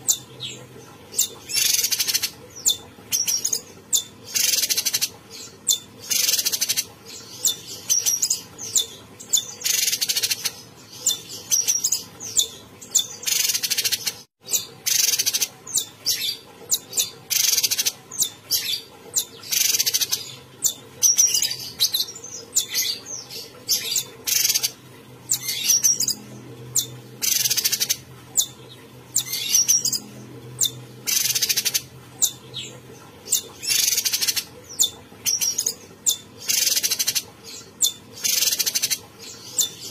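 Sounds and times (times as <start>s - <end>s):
songbird singing sharp calls: 1.2s - 23.1s, 23.8s - 24.7s, 26.8s - 30.0s, 30.6s - 32.7s, 33.3s - 37.2s, 37.8s - 39.0s.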